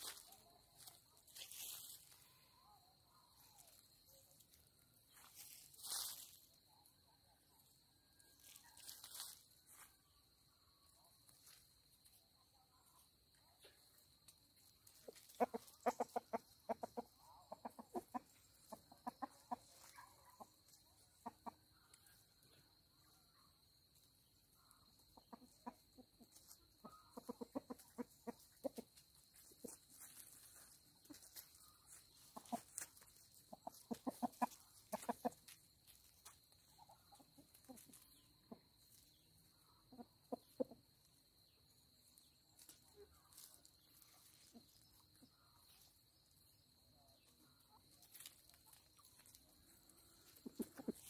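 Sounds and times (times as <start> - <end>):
chicken clucking: 0.0 - 51.0.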